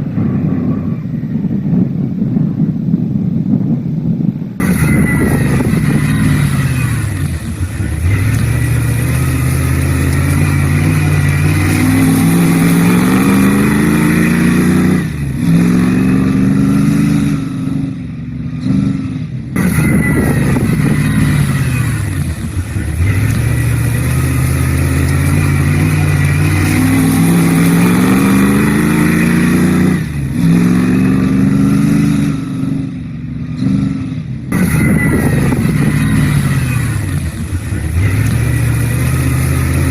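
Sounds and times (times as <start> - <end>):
racing engine accelerating: 4.6 - 39.9.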